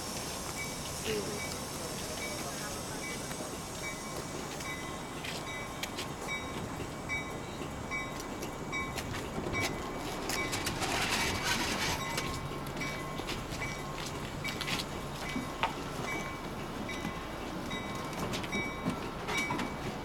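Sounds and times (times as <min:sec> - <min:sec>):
train rumbling to a stop: 0:00.0 - 0:20.0.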